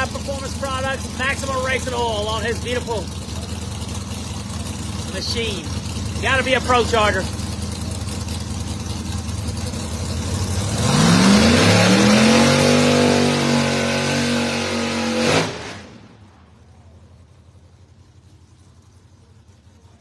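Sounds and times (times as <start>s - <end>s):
drag racing car engine: 0.0s - 20.0s.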